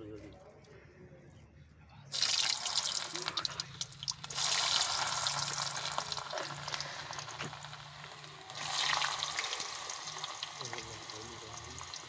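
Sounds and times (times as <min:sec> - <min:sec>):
chips sizzling in hot oil: 0:02.1 - 0:12.0.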